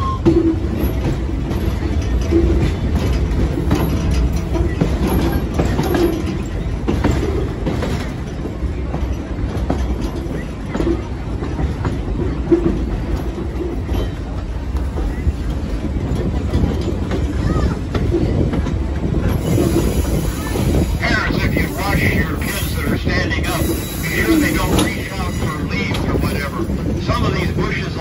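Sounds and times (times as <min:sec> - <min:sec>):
clickety-clack of rail joints: 0:00.0 - 0:28.0
train wheels rumbling on rails: 0:00.0 - 0:28.0.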